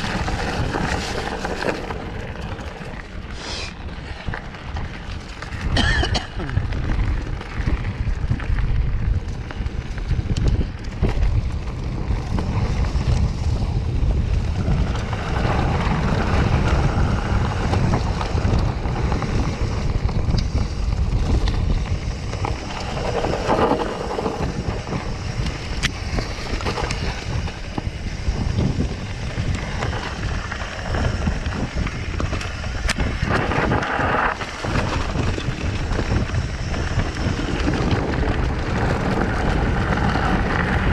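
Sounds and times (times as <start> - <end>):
bike rattling and knocking: 0.0 - 40.9
bike tyres rumbling over dirt: 0.0 - 40.9
wind buffeting microphone: 0.0 - 40.9.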